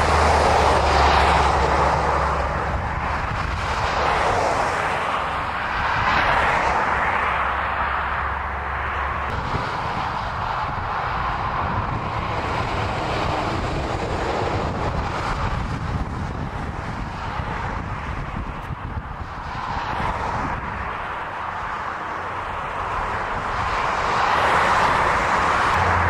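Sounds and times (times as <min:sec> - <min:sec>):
passing traffic roar: 0:00.0 - 0:26.0
wind rumbling on microphone: 0:00.0 - 0:26.0.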